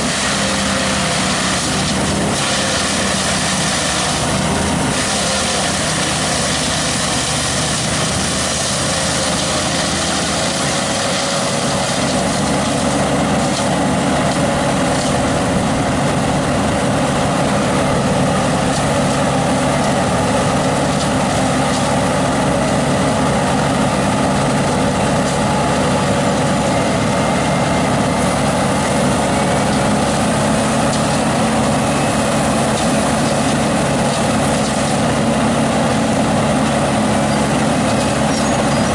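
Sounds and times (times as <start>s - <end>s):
engine droning steadily: 0.0s - 38.9s.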